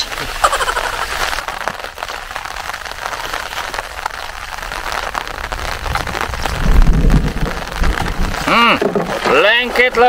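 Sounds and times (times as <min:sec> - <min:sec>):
rain falling on water: 0:00.0 - 0:10.0.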